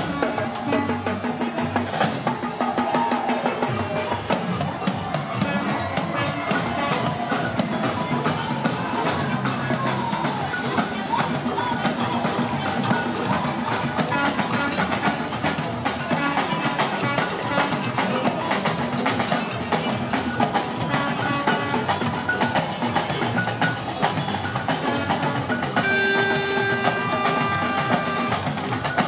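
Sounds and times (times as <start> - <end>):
samba drumming: 0.0 - 29.0.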